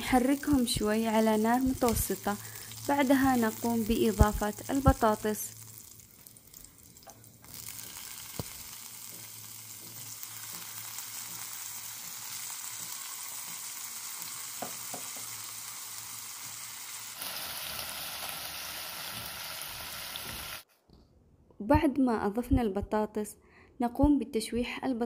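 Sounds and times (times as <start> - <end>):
oil sizzling: 0.0 - 20.7.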